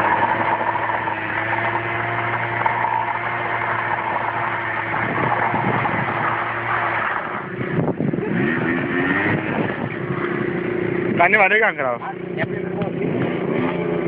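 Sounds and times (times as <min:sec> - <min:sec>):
tyre spinning on road: 0:00.0 - 0:11.9
scooter engine revving: 0:00.0 - 0:14.0.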